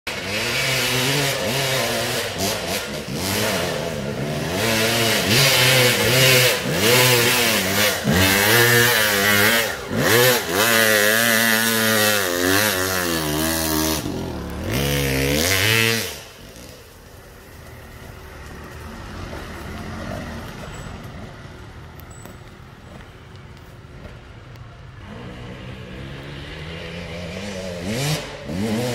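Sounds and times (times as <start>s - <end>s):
dirt bike engine revving: 0.1s - 20.9s, 25.0s - 28.9s.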